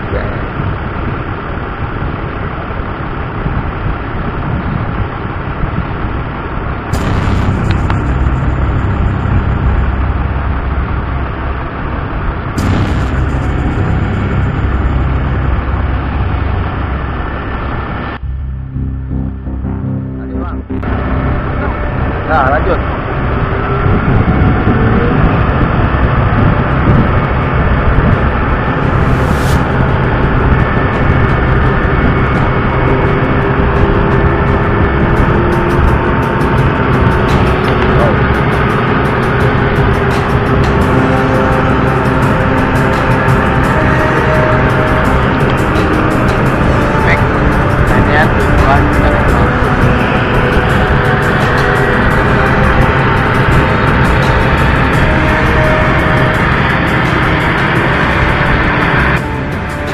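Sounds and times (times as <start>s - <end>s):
tug engine rumbling: 0.0s - 59.9s.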